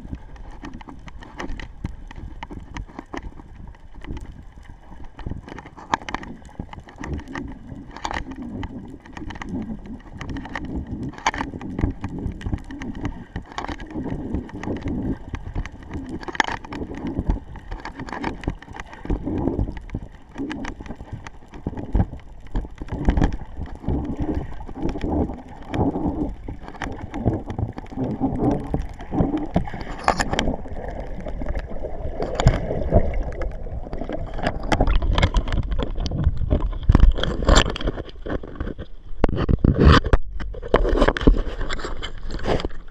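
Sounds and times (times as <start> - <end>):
underwater rumble and gurgle: 0.0 - 42.9
clicks and knocks: 0.4 - 42.9.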